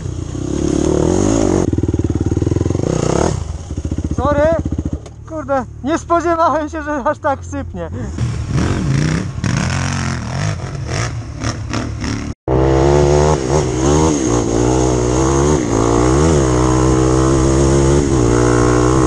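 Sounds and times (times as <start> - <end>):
quad bike engine revving: 0.0 - 5.5, 8.1 - 19.0.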